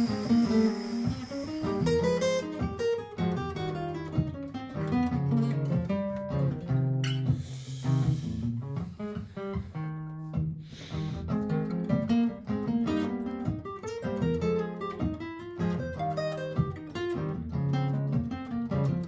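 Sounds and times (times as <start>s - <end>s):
looped acoustic guitar: 0.0s - 19.0s
plucked guitar notes: 0.0s - 19.0s.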